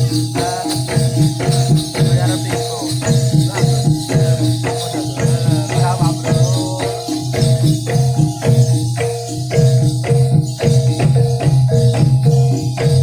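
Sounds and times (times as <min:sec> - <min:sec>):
jingling percussion: 0:00.0 - 0:13.0
metallophones playing pattern: 0:00.0 - 0:13.0.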